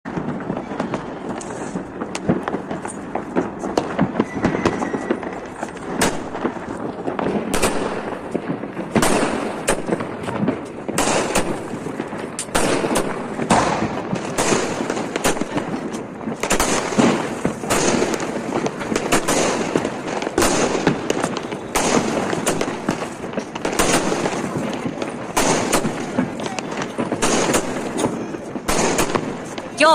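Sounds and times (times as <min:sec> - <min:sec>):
firecrackers crackling: 0:00.0 - 0:29.9
loud firework bangs: 0:00.0 - 0:29.9.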